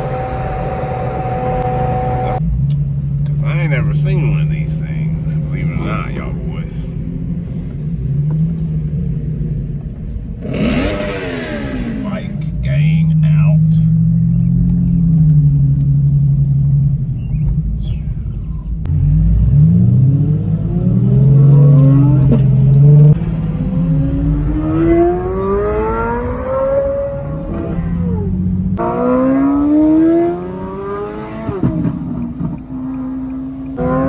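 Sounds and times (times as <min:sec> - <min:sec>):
sports car engine accelerating: 0:00.0 - 0:34.0.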